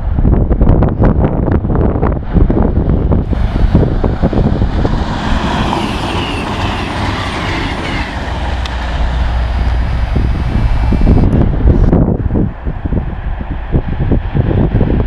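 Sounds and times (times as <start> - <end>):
wind buffeting on microphone: 0.0 - 15.0
train rushing past: 2.2 - 15.0.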